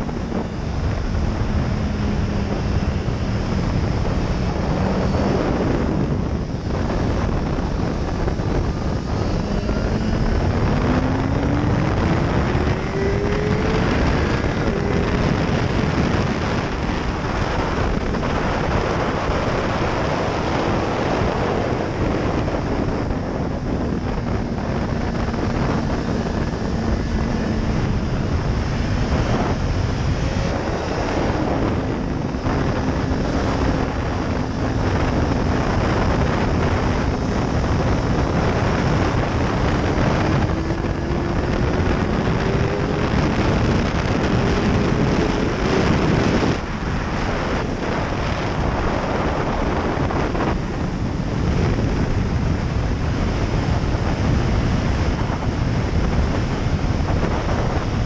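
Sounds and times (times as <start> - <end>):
motorcycle engine at speed: 0.0 - 58.0
wind rush on microphone: 0.0 - 58.0.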